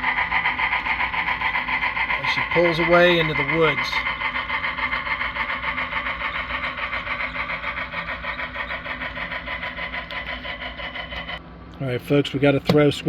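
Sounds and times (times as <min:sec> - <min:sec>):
model train clattering on track: 0:00.0 - 0:11.4, 0:12.6 - 0:13.0
steady whirr: 0:00.0 - 0:13.0.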